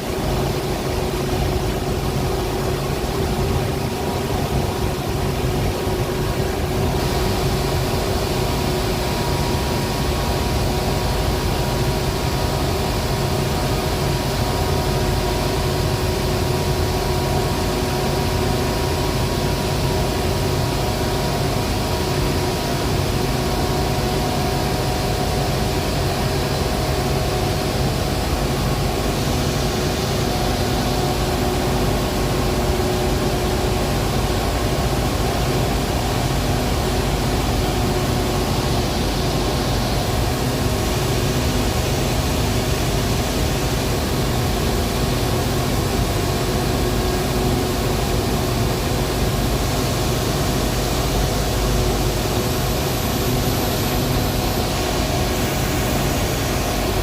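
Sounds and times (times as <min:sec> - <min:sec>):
steady machine hum tones: 0:00.0 - 0:57.0.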